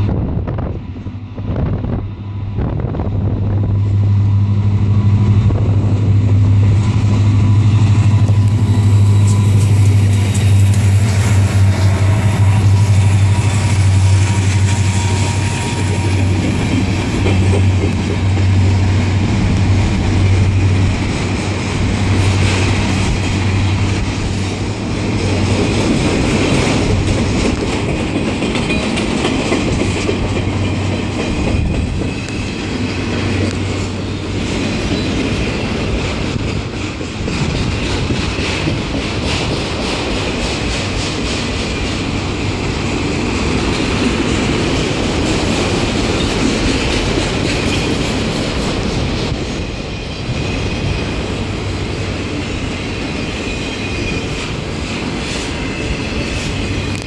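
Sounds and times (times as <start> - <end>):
diesel locomotive engine drone: 0.0 - 57.0
train wheels clattering: 4.4 - 57.0.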